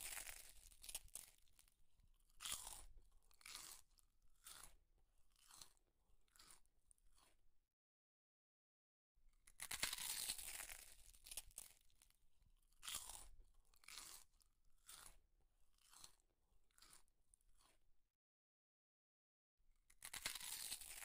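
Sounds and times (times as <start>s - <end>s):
person chewing food: 0.0s - 7.5s, 9.5s - 17.8s, 19.9s - 21.0s.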